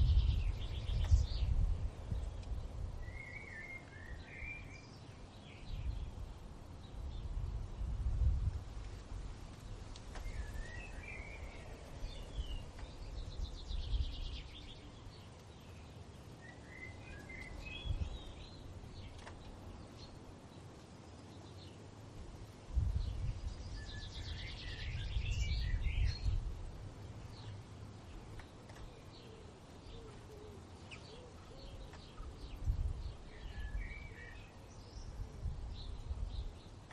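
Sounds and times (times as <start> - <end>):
low wind rumble: 0.0 - 36.9
songbirds singing: 0.0 - 36.9.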